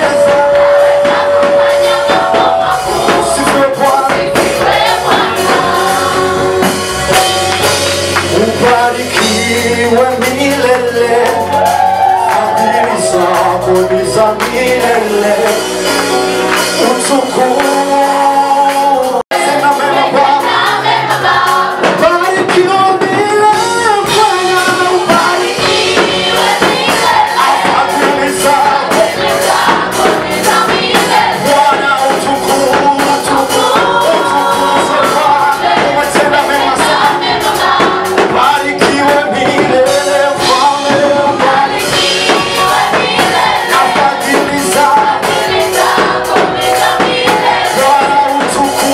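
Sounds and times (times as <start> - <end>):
group singing gospel song: 0.0 - 48.9
instrumental backing with steady beat: 0.0 - 48.9.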